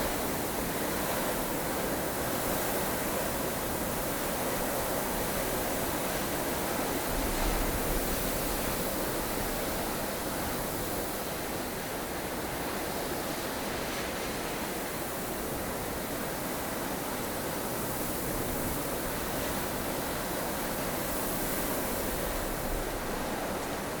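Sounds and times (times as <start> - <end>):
blustery snowstorm wind: 0.0 - 24.0.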